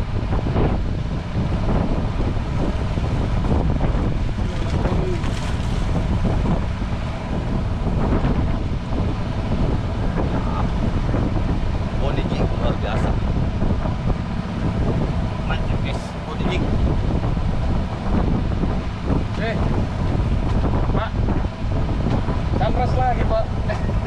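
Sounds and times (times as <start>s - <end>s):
constant low rumble: 0.0s - 24.0s
wind buffeting microphone: 0.0s - 24.0s.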